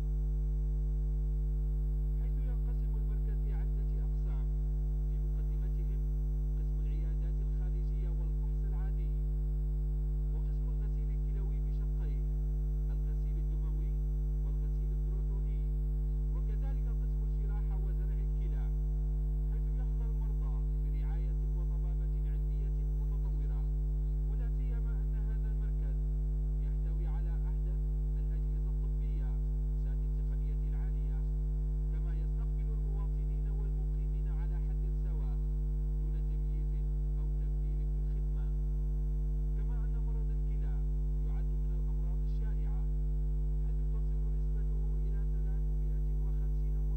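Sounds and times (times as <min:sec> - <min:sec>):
electrical mains hum: 0:00.0 - 0:46.9.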